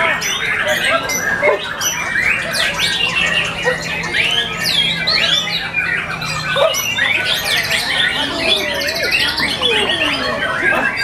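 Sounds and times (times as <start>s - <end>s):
chorus of birds singing: 0.0s - 11.0s.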